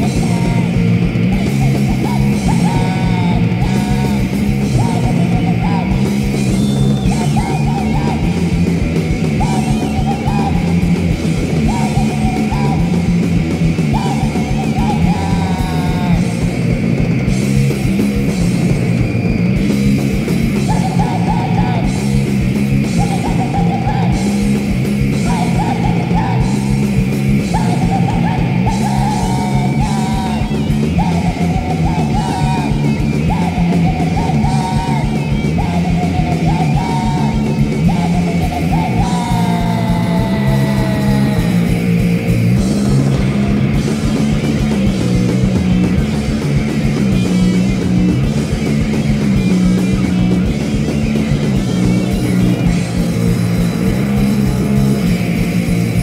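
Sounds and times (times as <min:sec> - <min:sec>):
punk band playing live: 0:00.0 - 0:56.0
yelled vocals: 0:00.0 - 0:56.0.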